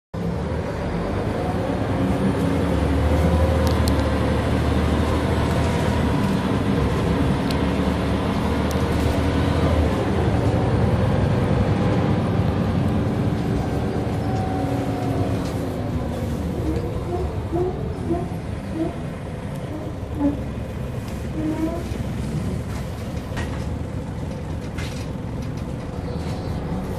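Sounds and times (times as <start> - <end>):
bus diesel engine drone: 0.2 - 26.9.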